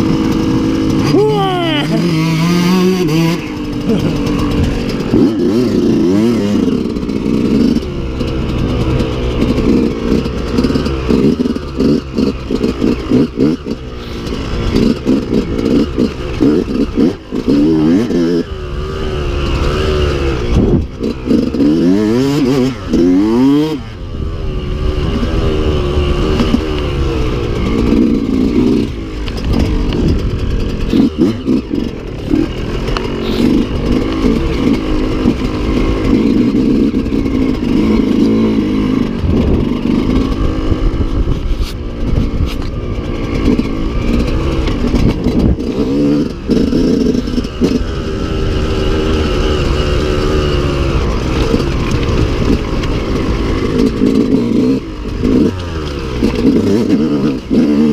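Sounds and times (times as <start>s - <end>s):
bike rattling on rough track: 0.0s - 57.9s
dirt bike engine revving: 0.0s - 57.9s.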